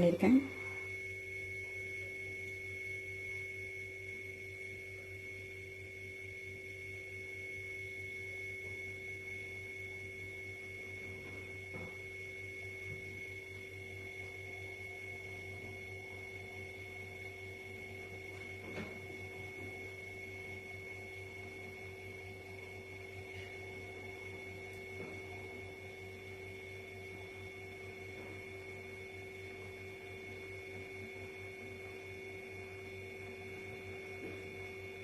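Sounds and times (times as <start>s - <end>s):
steady low hum: 0.0s - 35.0s
thin high whine: 0.0s - 35.0s.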